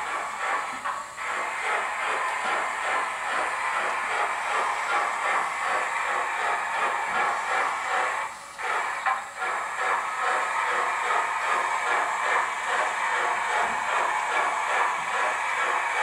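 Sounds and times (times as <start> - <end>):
steady hiss: 0.0 - 16.0
steam locomotive exhaust chuffs: 0.0 - 16.0.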